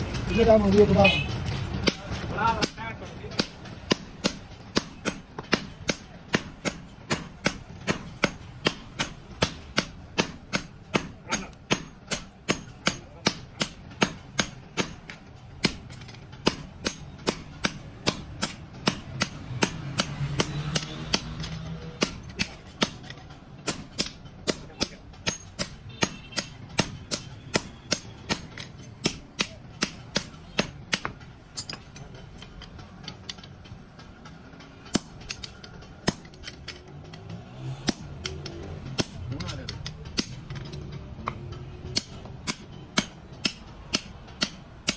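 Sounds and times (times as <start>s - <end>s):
hammer striking steel on anvil: 0.1s - 44.9s.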